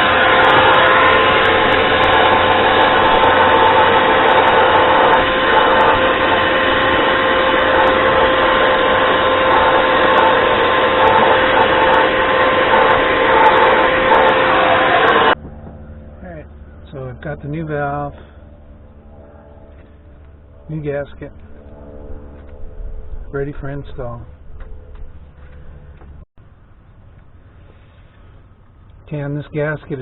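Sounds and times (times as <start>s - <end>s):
small motor running with whine: 0.0s - 26.2s.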